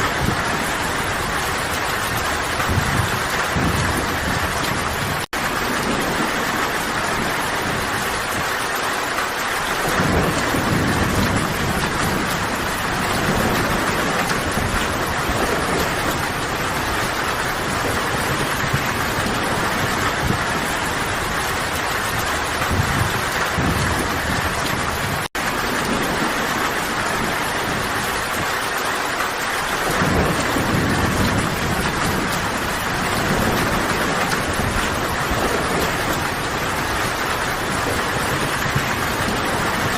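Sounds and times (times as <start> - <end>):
heavy rain hiss: 0.0 - 39.9
rolling thunder: 0.0 - 39.9.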